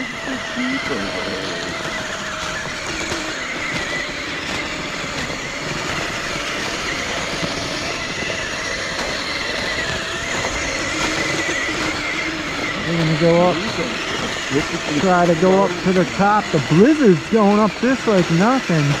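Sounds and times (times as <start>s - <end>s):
small electric motors whining: 0.0s - 19.0s
steady rushing noise: 0.0s - 19.0s.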